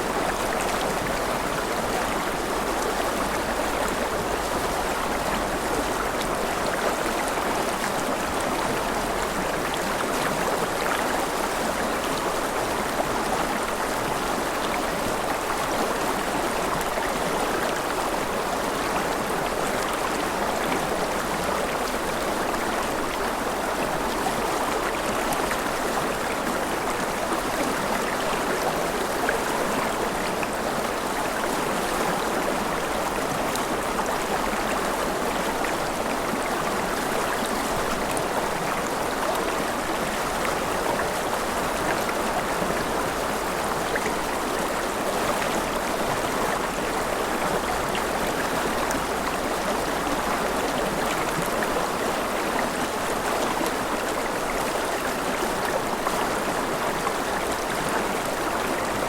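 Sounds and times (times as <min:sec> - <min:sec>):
river flowing over rocks: 0:00.0 - 0:59.0.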